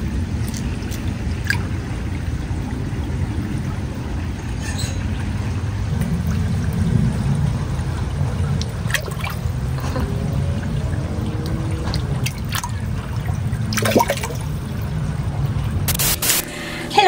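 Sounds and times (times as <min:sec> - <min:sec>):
pond water trickling: 0:00.0 - 0:16.8.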